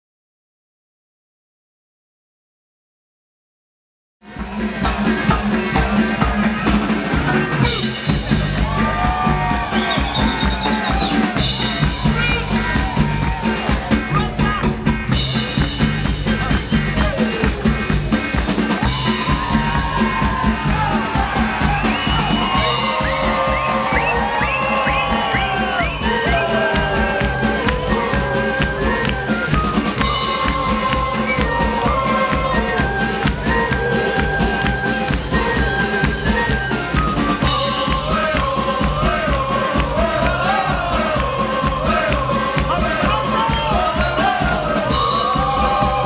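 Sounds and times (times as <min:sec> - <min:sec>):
live cumbia band playing: 0:04.3 - 0:46.0.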